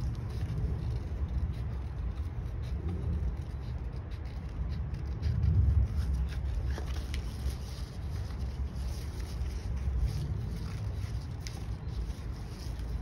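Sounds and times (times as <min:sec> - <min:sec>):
low rumble: 0:00.0 - 0:13.0
scissors cutting paper: 0:00.0 - 0:13.0.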